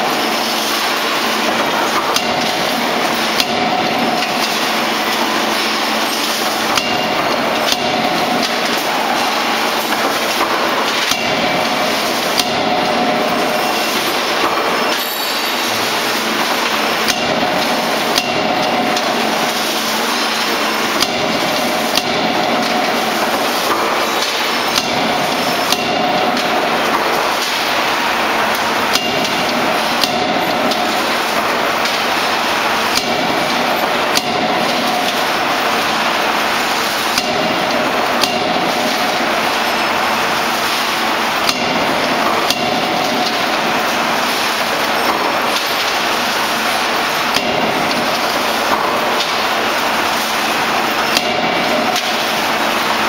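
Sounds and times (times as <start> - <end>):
forge machinery noise: 0.0 - 53.0
forging hammer metallic blows: 0.0 - 53.0.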